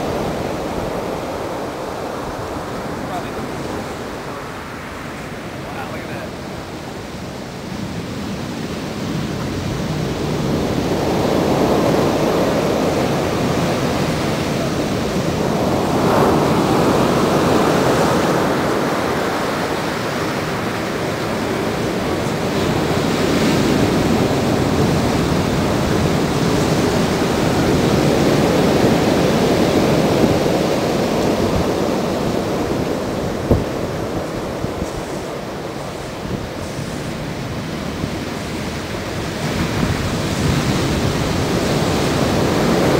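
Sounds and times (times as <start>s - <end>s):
ocean waves breaking on beach: 0.0s - 42.9s.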